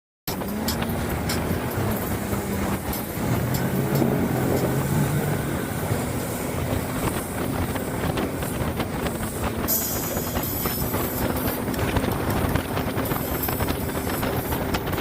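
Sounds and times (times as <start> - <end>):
outboard motor running: 0.3 - 15.0
rushing water: 0.3 - 15.0
wind noise: 0.3 - 15.0.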